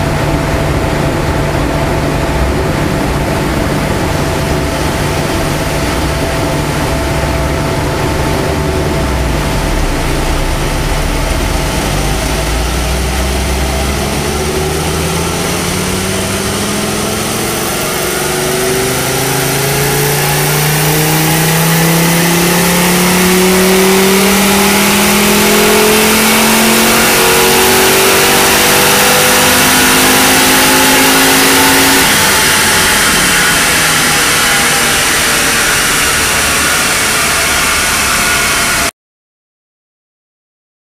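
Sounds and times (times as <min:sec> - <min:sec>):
car engine revving under load: 0:00.0 - 0:38.9.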